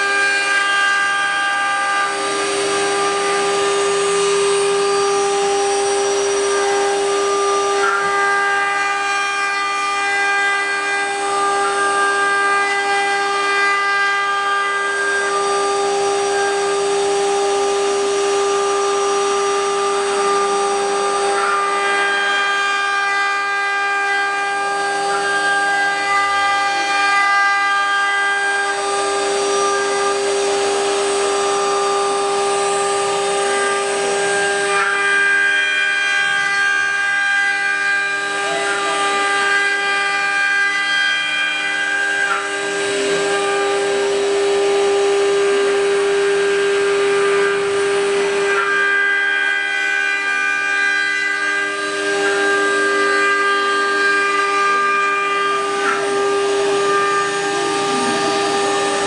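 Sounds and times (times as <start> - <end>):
router spindles whining: 0.0 - 59.0.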